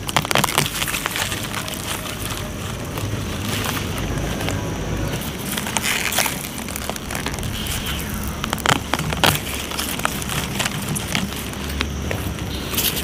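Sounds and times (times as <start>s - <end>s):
leaves and stems rustling: 0.0s - 13.0s
roots snapping: 0.0s - 13.0s.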